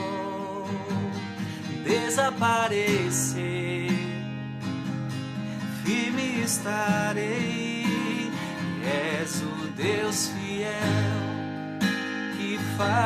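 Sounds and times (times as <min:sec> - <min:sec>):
man singing: 0:00.0 - 0:04.4, 0:05.6 - 0:11.6, 0:12.2 - 0:13.0
acoustic guitar strumming: 0:00.0 - 0:13.0.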